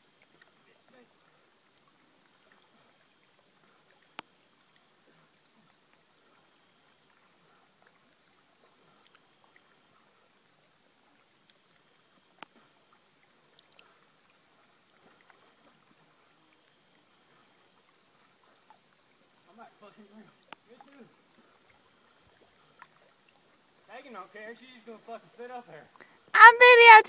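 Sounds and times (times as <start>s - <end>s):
faint ticks: 0.0s - 26.4s
faint outdoor background hiss: 0.0s - 27.0s.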